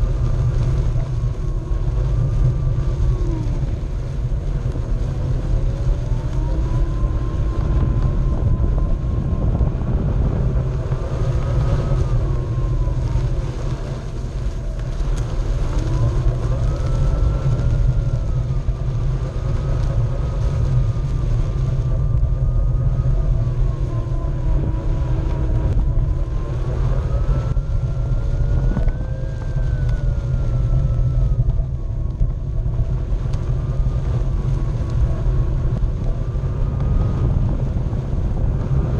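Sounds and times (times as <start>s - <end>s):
tire rolling over grass: 0.0s - 38.9s
wind buffeting microphone: 0.0s - 38.9s.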